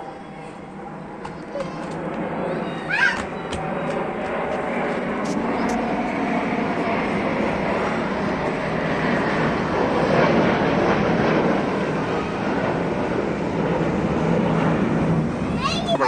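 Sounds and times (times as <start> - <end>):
low-flying aircraft engine: 0.0 - 16.0.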